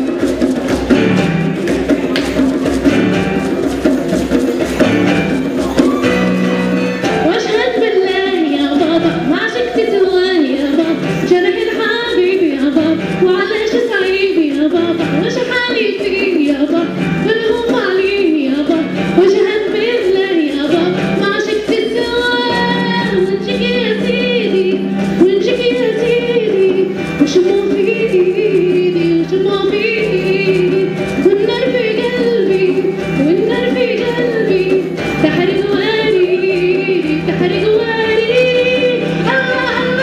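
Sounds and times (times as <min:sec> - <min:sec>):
musical accompaniment: 0:00.0 - 0:40.0.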